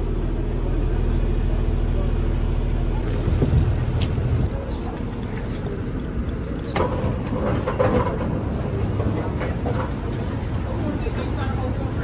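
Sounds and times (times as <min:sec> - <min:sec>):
bus engine rumbling: 0:00.0 - 0:12.0
street noise: 0:00.0 - 0:12.0.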